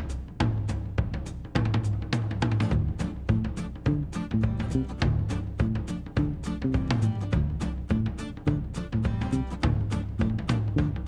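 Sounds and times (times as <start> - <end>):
music with driving drum beat: 0.0 - 11.0
stepping bass line: 0.0 - 11.0.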